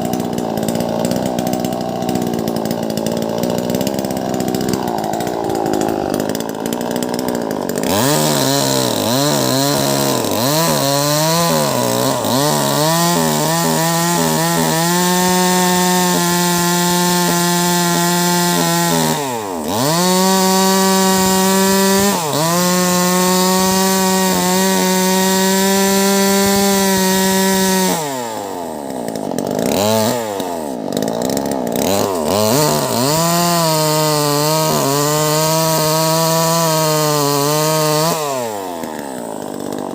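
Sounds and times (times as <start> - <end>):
chainsaw cutting through a log: 0.0 - 39.9.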